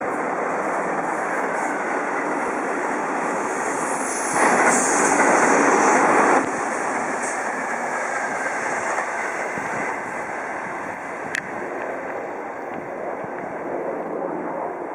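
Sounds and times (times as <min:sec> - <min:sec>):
electric train running past: 0:00.0 - 0:14.9.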